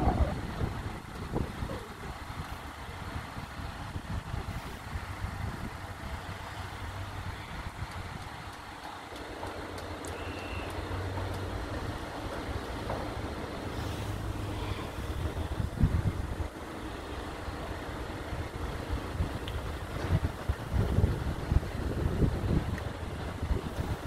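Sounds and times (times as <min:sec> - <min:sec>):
road traffic noise: 0:00.0 - 0:24.0
wind buffeting microphone: 0:00.0 - 0:24.0.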